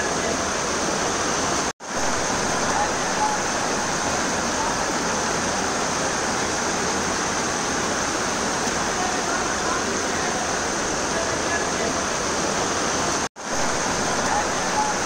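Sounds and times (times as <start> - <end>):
floodwater rushing: 0.0 - 15.0
heavy rain: 0.0 - 15.0.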